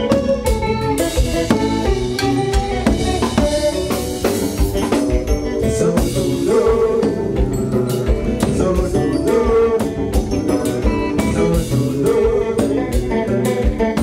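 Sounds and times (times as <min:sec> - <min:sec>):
drum kit steady beat: 0:00.0 - 0:14.0
electric guitar: 0:00.0 - 0:14.0
live band playing: 0:00.0 - 0:14.0.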